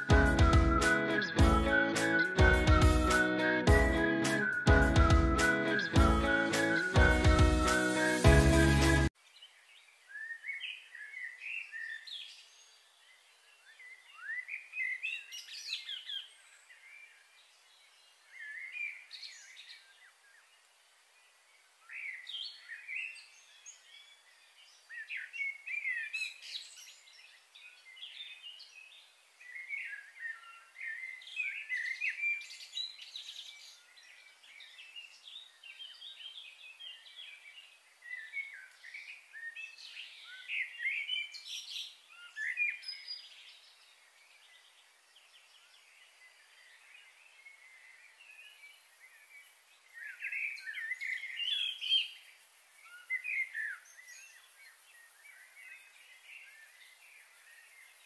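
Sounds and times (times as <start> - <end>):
wild birds chirping and trilling: 5.6 - 58.0.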